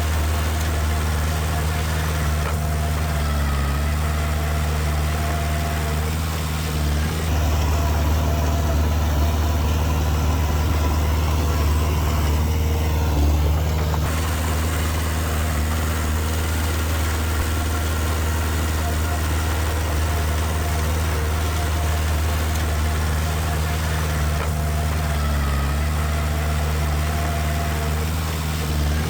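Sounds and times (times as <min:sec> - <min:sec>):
diesel engine of heavy machinery: 0:00.0 - 0:29.0.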